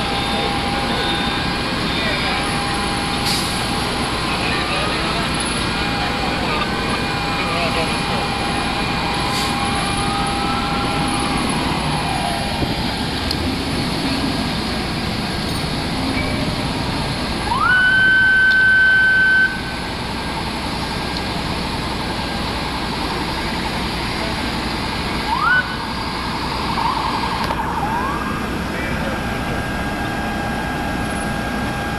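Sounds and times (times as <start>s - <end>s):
fire engine sirens: 0.0s - 31.9s
fire engines idling: 0.0s - 31.9s.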